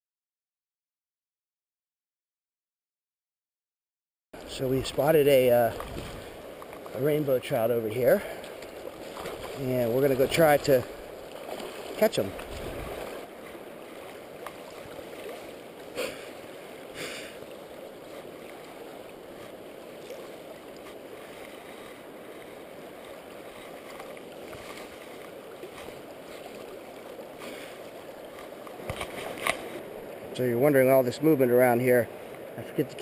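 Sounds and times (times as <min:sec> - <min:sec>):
river water flowing: 0:04.4 - 0:33.0.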